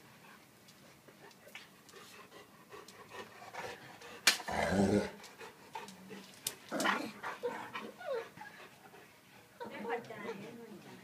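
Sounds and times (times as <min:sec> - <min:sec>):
dogs play-fighting: 0:00.7 - 0:11.0.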